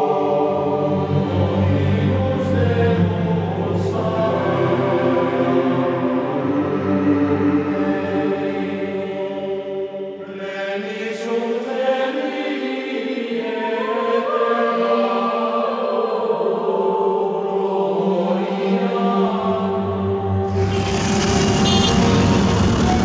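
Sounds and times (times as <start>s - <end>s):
slow choir-like chanting: 0.0s - 23.0s.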